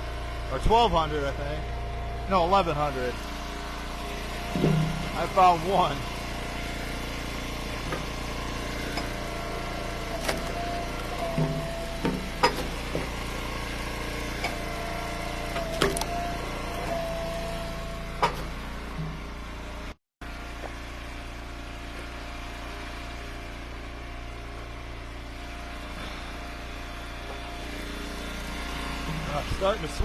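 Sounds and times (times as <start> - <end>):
wood splitter engine running: 0.0 - 30.0.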